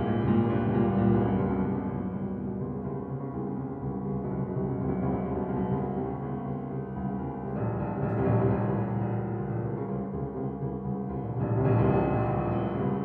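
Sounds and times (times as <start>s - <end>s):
low piano chords: 0.0s - 13.0s.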